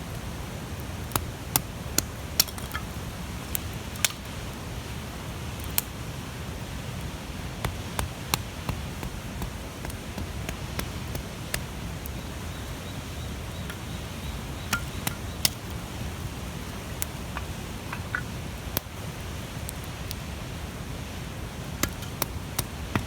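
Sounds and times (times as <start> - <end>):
bonfire flames rumbling: 0.0 - 23.0
wood crackling and popping: 0.1 - 23.0.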